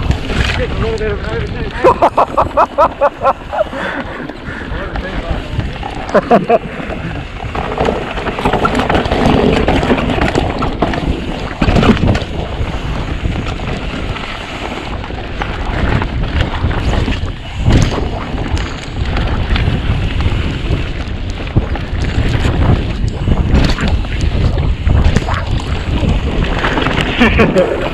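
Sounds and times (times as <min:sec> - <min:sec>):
bike tyres and frame rattling: 0:00.0 - 0:27.9
wind over microphone: 0:00.0 - 0:27.9.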